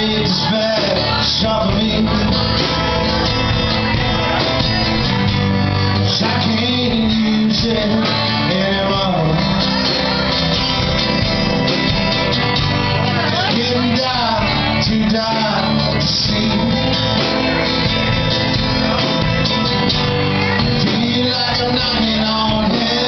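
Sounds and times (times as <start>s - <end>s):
live band with guitars: 0.0s - 23.0s
person singing: 0.0s - 23.0s.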